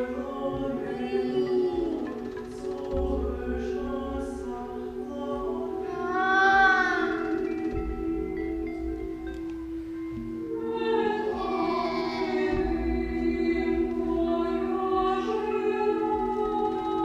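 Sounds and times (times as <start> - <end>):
choir-like singing: 0.0 - 8.9, 10.5 - 17.0
sustained music notes: 0.0 - 17.0.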